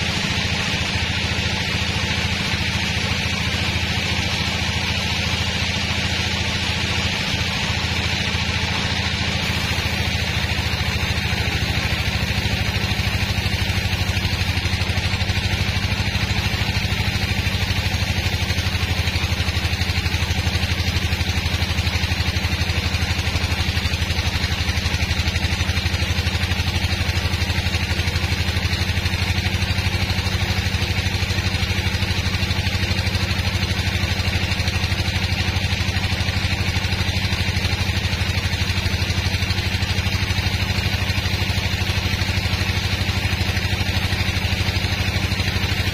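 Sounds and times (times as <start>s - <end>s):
band sawmill droning: 0.0s - 45.9s.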